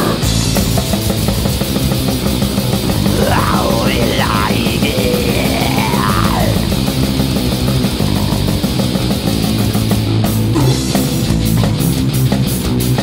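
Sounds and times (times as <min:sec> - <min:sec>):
black metal band playing: 0:00.0 - 0:13.0.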